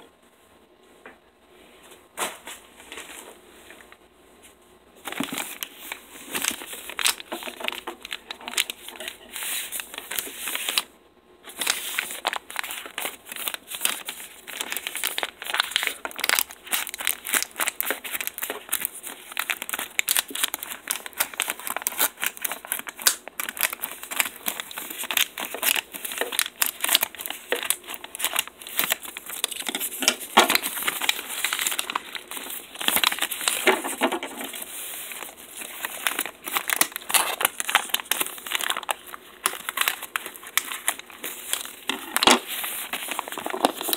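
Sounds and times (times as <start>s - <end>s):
plastic bag crinkling: 5.0s - 10.9s, 11.5s - 43.9s.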